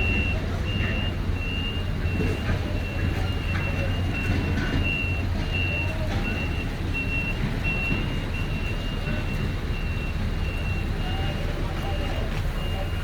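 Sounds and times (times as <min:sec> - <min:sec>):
vehicle warning beeper: 0:00.0 - 0:13.0.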